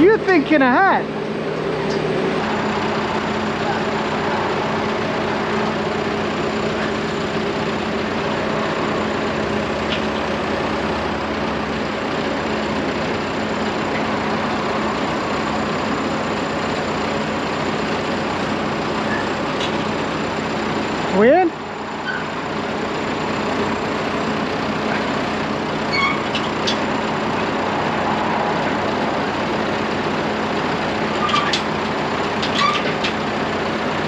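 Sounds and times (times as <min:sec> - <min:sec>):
tractor engine idling: 0:00.0 - 0:34.0.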